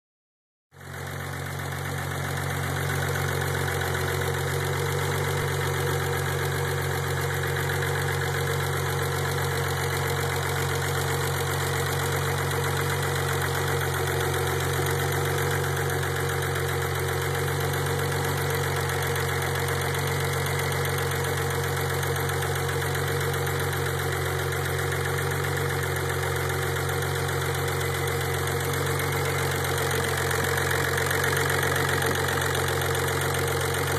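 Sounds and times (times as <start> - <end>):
engine idling: 0.8 - 33.9.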